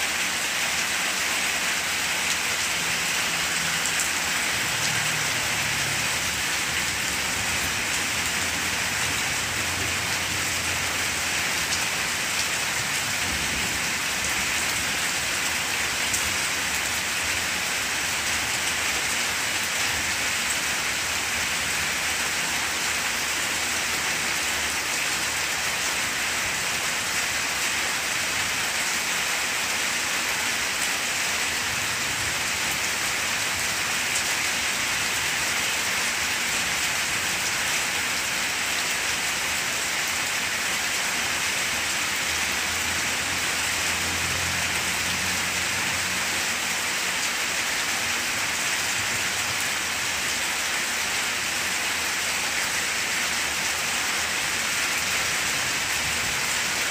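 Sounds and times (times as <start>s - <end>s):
rain on leaves: 0.0s - 56.9s.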